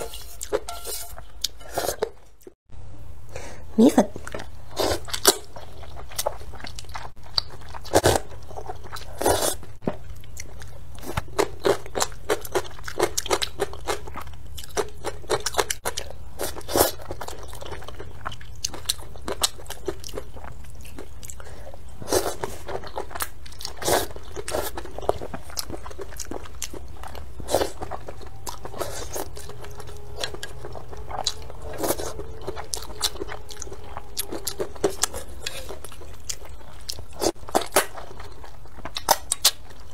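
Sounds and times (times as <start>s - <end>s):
person slurping and chewing noodles: 0.0s - 2.2s, 4.2s - 39.9s.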